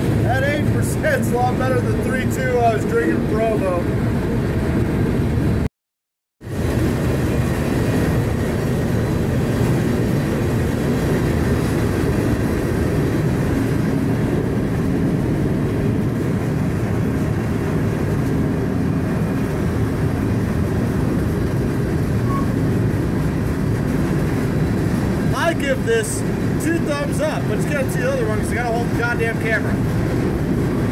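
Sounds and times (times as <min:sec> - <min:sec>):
freight train rumble: 0:00.0 - 0:05.7, 0:06.4 - 0:30.9.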